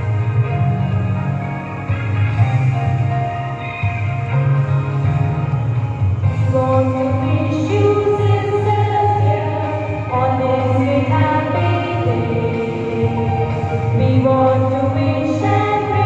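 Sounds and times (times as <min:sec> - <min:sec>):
steady bass accompaniment: 0:00.0 - 0:16.0.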